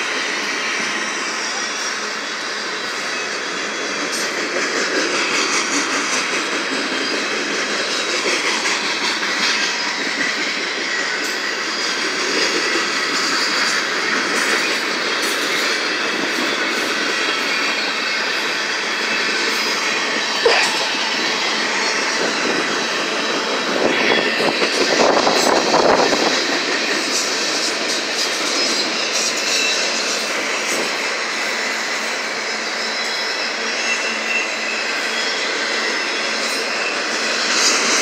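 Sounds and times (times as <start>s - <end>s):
steel wheels on rail: 0.0s - 38.0s.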